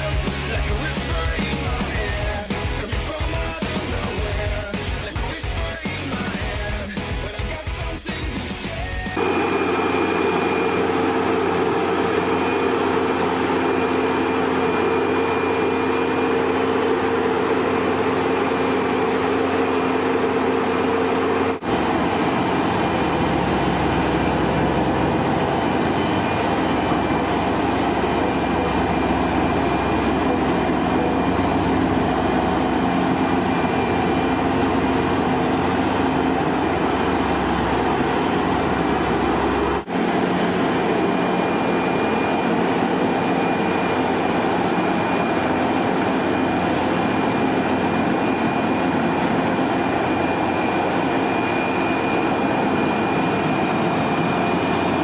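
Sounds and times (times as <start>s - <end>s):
heavy machinery running: 0.0s - 55.0s
faint machine whine: 9.2s - 55.0s.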